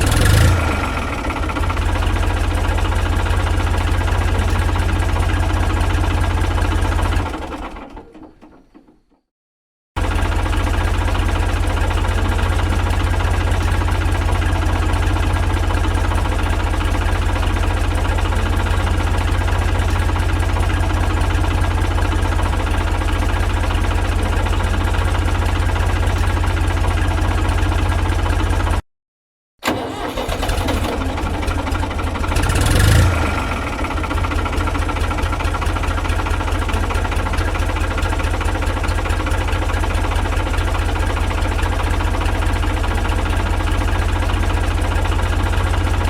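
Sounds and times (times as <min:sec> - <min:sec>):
tractor engine rumbling: 0:00.0 - 0:08.6, 0:10.0 - 0:28.8, 0:29.6 - 0:46.0.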